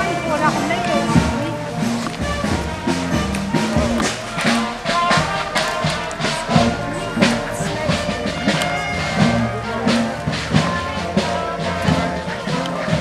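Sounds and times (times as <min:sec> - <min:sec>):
brass band playing a march: 0:00.0 - 0:13.0.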